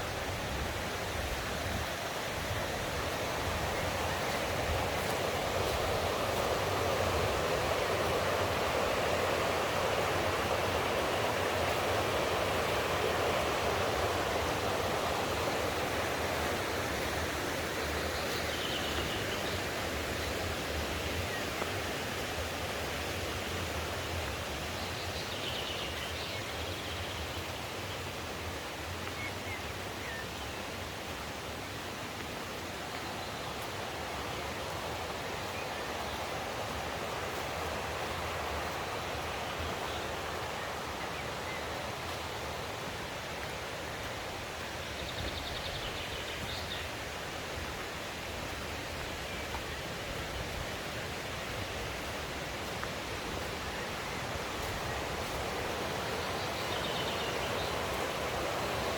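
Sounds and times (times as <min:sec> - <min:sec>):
stream rushing over rocks: 0:00.0 - 0:58.9.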